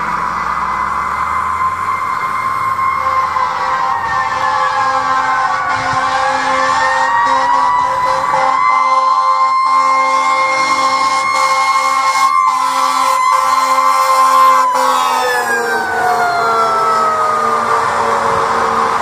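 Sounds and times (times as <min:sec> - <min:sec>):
fire engine siren: 0:00.0 - 0:19.0.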